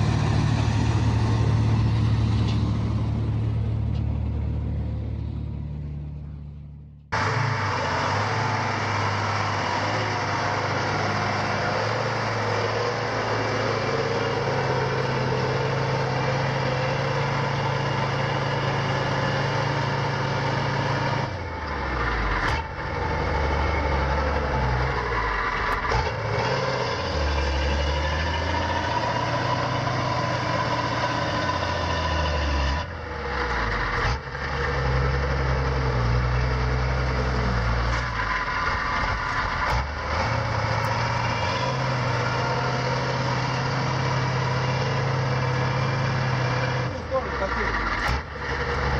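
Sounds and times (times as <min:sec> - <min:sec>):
heavy vehicle engine droning: 0:00.0 - 0:48.9.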